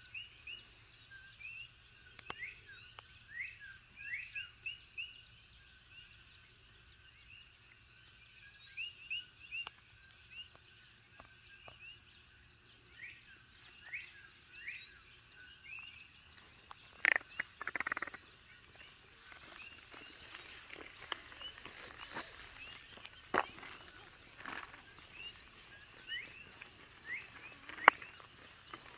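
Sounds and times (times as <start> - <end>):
frogs chirping in chorus: 0.0 - 28.9
high insect hum: 0.0 - 28.9.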